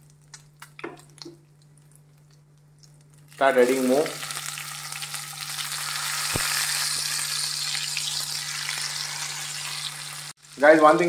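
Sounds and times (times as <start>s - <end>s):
prawns sizzling in oil: 0.0s - 11.0s.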